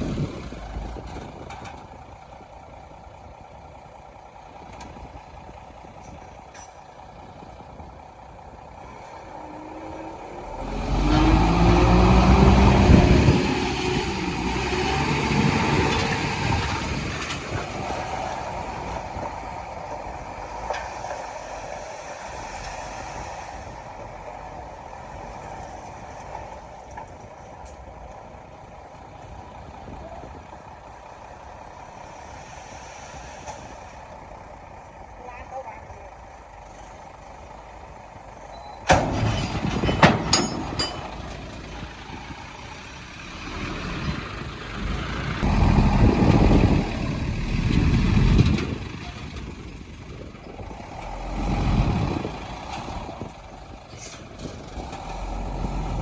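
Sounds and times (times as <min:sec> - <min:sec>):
heavy diesel engine revving: 0:08.0 - 0:26.9, 0:27.9 - 0:56.0.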